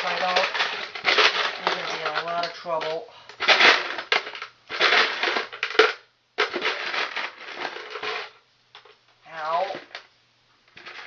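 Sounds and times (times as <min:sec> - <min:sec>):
small parts and glass clattering: 0:00.0 - 0:10.0, 0:10.7 - 0:11.0.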